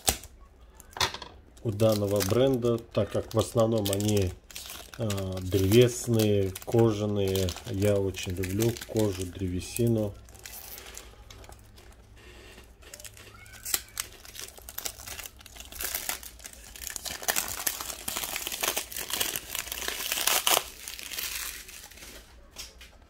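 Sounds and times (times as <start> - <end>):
plastic shrink wrap crinkling: 0.0 - 23.0.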